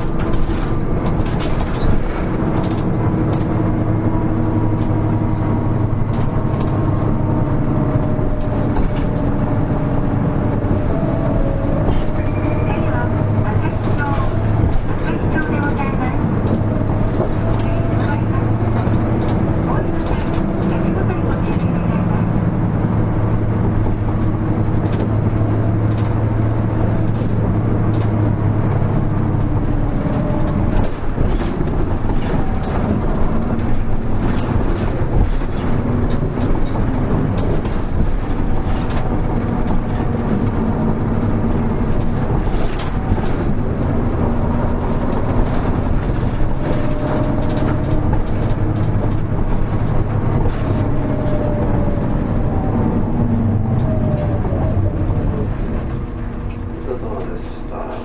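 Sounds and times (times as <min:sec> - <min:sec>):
body rattle and clicking: 0:00.0 - 0:58.0
bus diesel engine humming: 0:00.0 - 0:58.0.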